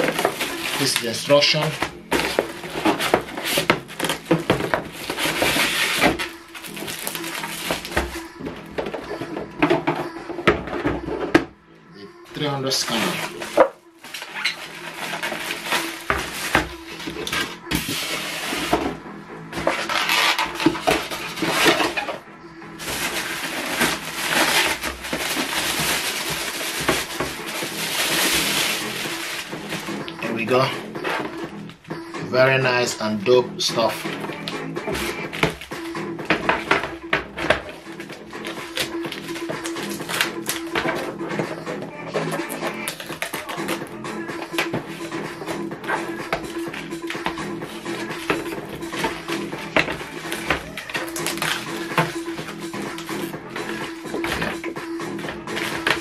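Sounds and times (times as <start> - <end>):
crinkly plastic rustling: 0.0 - 11.4, 12.4 - 22.2, 22.8 - 31.8, 33.8 - 56.0
cardboard and foam creaking: 0.0 - 11.5, 12.4 - 56.0.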